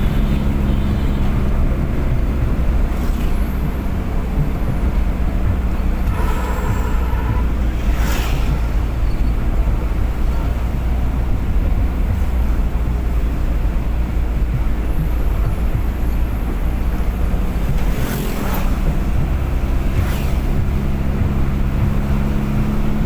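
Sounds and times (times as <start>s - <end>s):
passing traffic whoosh: 0.0s - 23.0s
vehicle driving on highway: 0.0s - 23.0s.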